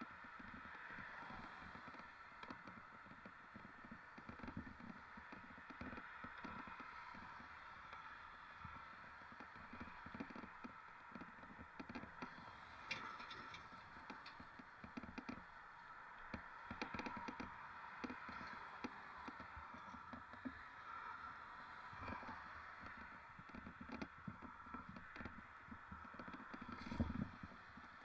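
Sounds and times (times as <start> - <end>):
bike clicking and rattling: 0.0 - 20.7, 22.1 - 28.0.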